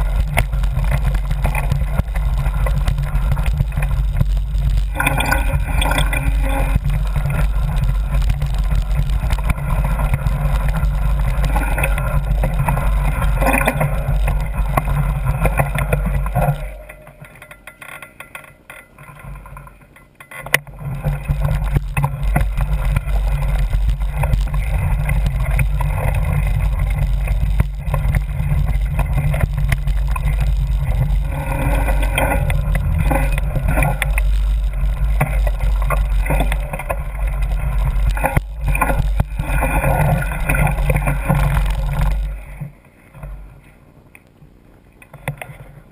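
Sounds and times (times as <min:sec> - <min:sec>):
mountain bike rattling on dirt trail: 0:00.0 - 0:43.8.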